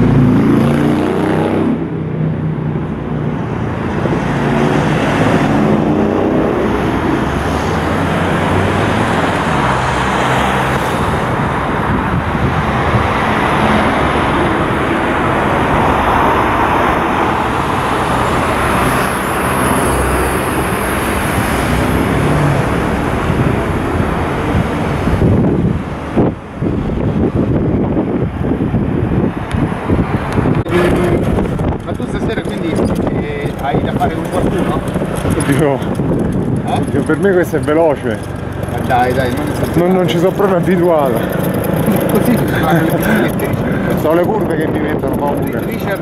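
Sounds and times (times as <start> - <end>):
cars passing on road: 0.0 - 46.0.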